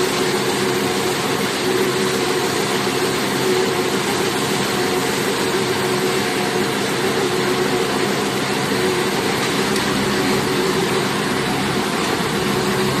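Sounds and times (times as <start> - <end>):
baler machine droning: 0.0 - 13.0.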